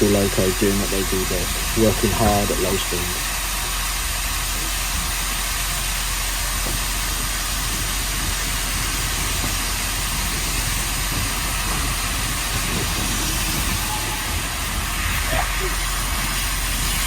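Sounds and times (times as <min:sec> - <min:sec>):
steam locomotive hissing and rumbling: 0:00.0 - 0:17.0.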